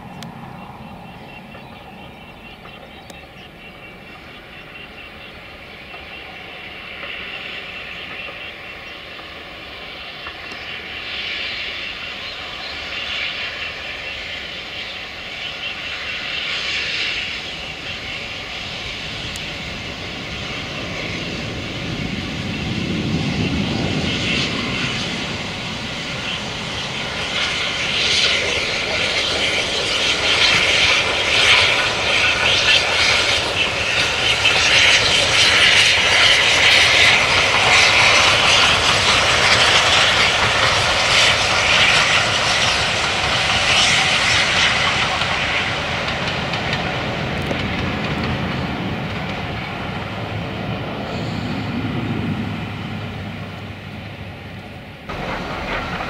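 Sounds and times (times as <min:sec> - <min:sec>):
steam locomotive approaching: 0:00.0 - 0:56.0.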